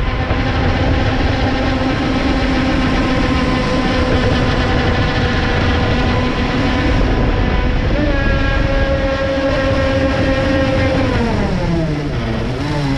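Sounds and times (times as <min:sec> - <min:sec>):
electric motors whining: 0:00.0 - 0:12.9
wind noise: 0:00.0 - 0:12.9.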